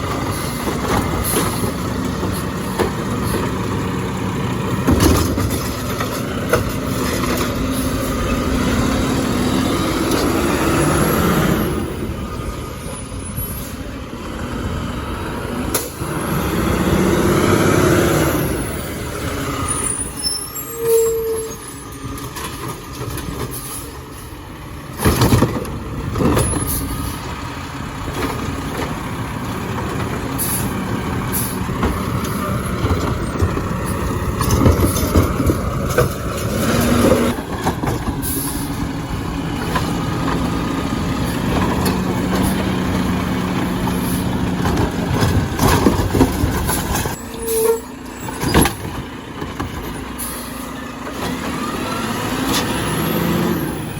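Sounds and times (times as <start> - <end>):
garbage truck engine running: 0.0 - 53.9.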